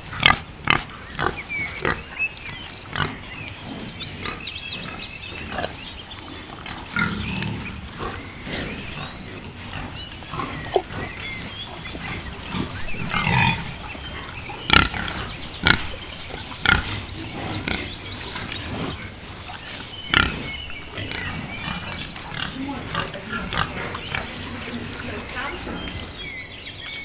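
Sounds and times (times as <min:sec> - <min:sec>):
wild boar grunting: 0:00.0 - 0:26.4.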